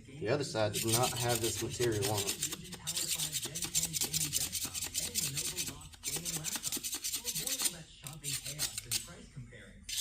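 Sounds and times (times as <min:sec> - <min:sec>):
gasket scraper rasping on metal: 0:00.7 - 0:09.1.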